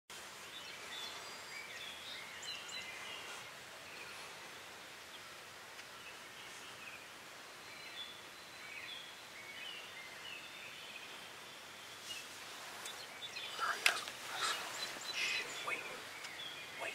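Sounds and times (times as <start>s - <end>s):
steady outdoor hiss: 0.1s - 16.9s
small birds chirping: 0.2s - 16.9s.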